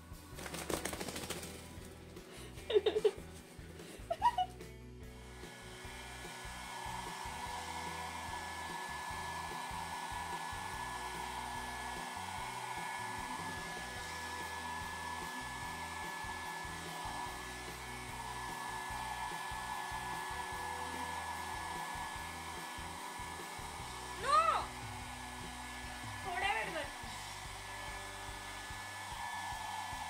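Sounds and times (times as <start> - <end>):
hair dryer running: 1.1 - 30.0.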